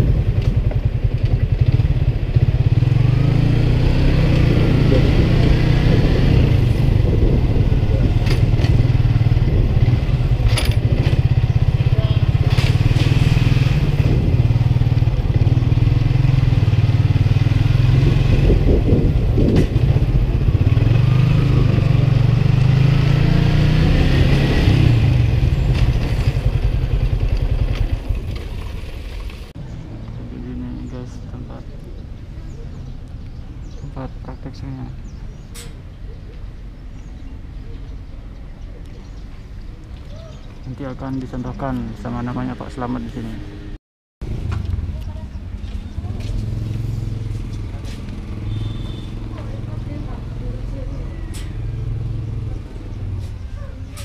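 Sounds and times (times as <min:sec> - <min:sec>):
motorcycle engine while riding: 0:00.0 - 0:32.9, 0:40.1 - 0:54.0.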